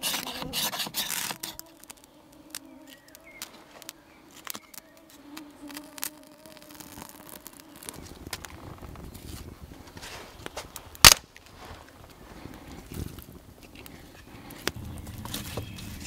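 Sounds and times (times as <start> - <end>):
small wood fire crackling: 0.0 - 16.0.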